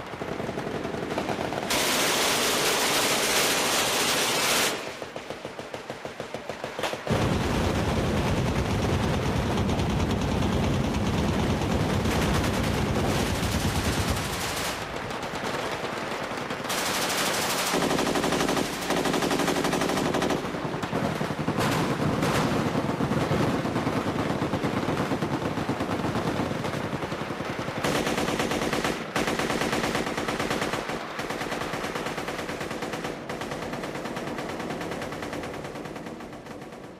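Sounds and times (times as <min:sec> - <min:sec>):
automatic gunfire: 0:00.0 - 0:36.9.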